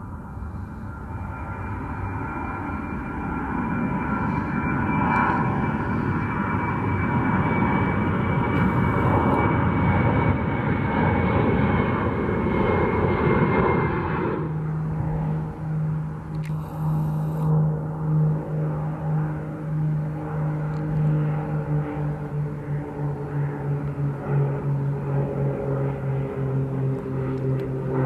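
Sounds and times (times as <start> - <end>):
jet engines with fan whine: 0.0 - 28.0
piston engines and propellers: 0.0 - 28.0.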